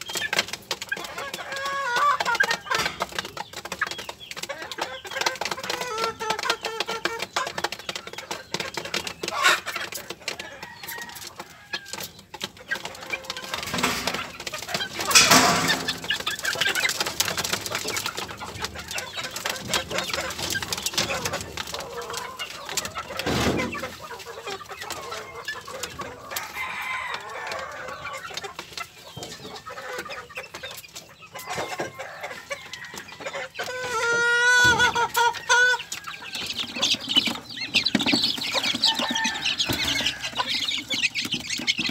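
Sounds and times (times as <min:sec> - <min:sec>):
young chickens clucking: 0:00.0 - 0:41.9.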